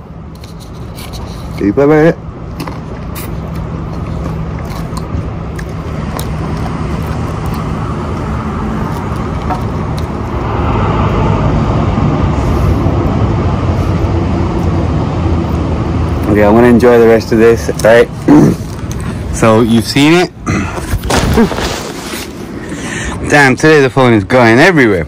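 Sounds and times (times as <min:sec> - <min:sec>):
car engine and tyre noise: 0:00.0 - 0:20.1.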